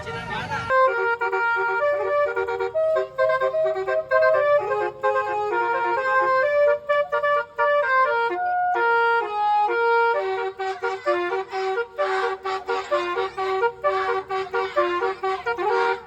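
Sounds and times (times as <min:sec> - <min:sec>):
bus horn playing melody: 0:00.0 - 0:16.0.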